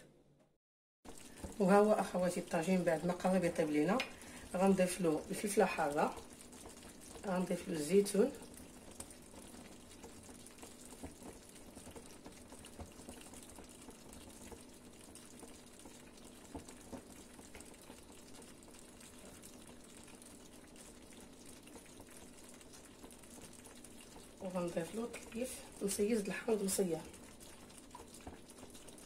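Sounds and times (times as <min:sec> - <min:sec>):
faint food simmering: 0:01.1 - 0:29.0.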